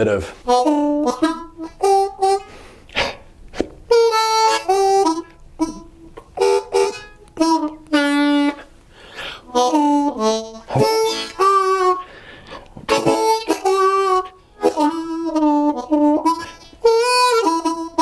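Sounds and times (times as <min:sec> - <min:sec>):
blues harmonica playing: 0:00.0 - 0:03.0, 0:03.6 - 0:18.0.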